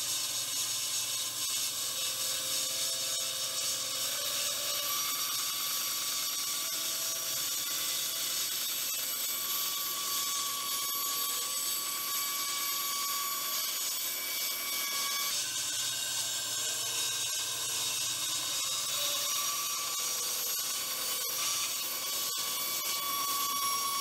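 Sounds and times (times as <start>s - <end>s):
bandsaw cutting wood: 0.0s - 24.0s.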